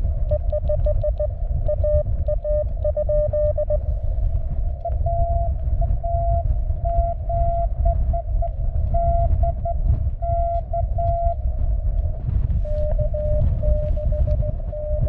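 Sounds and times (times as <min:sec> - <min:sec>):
steady low rumble: 0:00.0 - 0:15.0
morse code beeps: 0:00.2 - 0:03.8, 0:04.8 - 0:11.4, 0:12.6 - 0:15.0.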